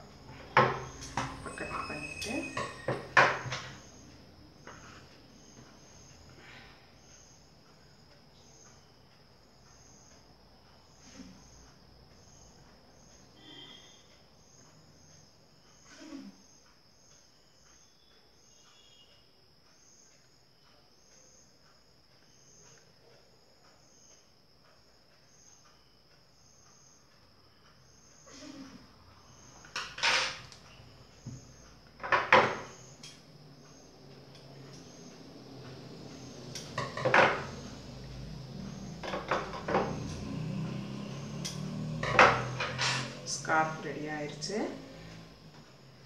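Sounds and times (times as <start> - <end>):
high-pitched insect chirping: 0.0 - 6.4, 7.0 - 24.4, 28.9 - 46.0.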